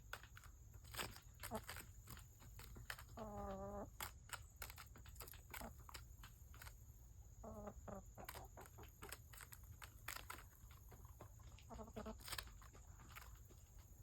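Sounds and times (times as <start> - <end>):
hens clucking: 1.2 - 14.0.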